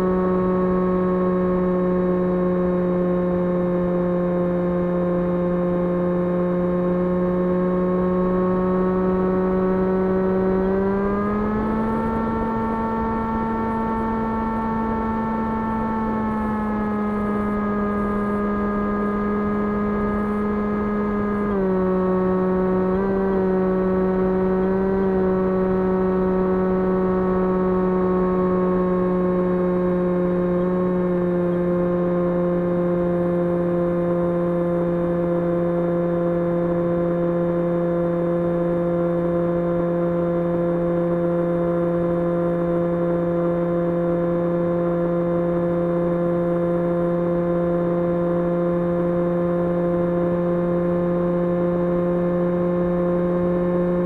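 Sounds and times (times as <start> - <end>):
electric motor and propeller whining: 0.0 - 54.0.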